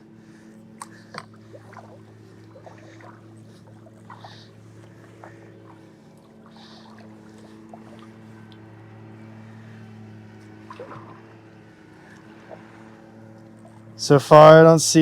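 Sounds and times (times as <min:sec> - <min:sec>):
steady low hum: 0:00.0 - 0:15.0
kayak paddle dipping and dripping: 0:00.2 - 0:14.0
water splashes: 0:00.3 - 0:15.0.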